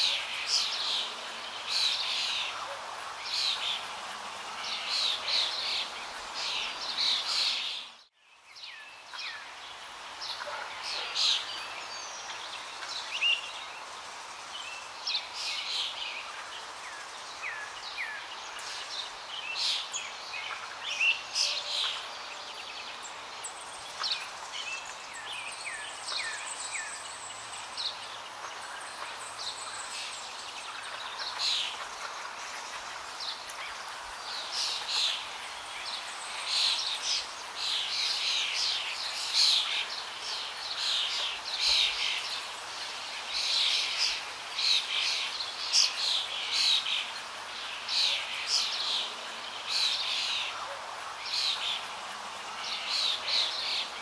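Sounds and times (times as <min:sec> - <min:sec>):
background hiss: 0:00.0 - 0:54.0
songbirds chirping: 0:00.0 - 0:54.0.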